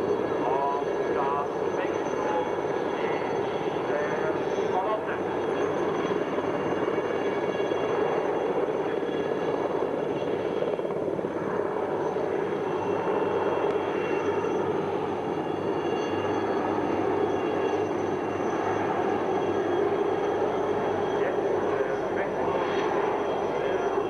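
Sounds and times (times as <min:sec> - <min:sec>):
helicopters flying overhead: 0:00.0 - 0:24.0.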